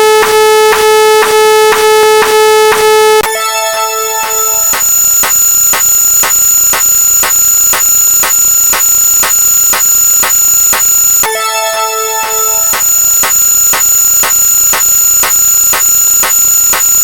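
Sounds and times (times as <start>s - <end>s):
sharp electronic clicks: 0.0s - 11.5s, 12.1s - 17.0s
lower electronic tones: 0.0s - 17.0s
steady high-pitched electronic tone: 0.0s - 17.0s.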